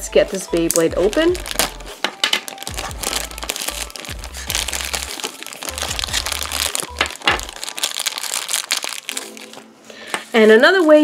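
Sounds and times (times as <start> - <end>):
background music: 0.0 - 11.0
plastic bag crinkling: 0.6 - 9.8.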